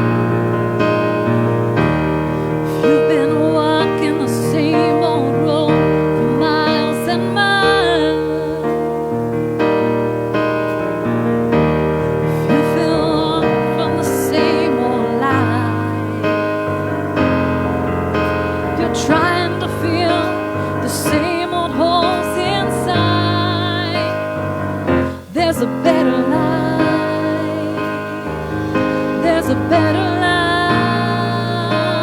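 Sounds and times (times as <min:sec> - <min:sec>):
keyboard sustained chords: 0:00.0 - 0:32.0.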